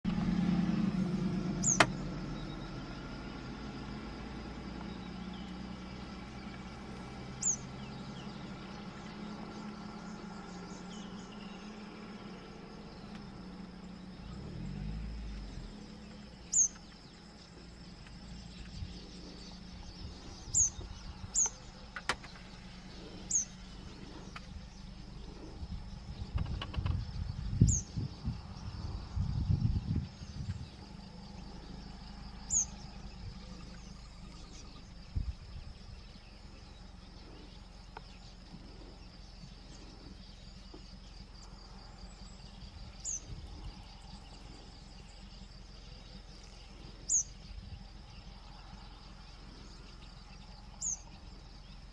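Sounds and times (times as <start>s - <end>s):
low engine hum: 0.0s - 51.9s.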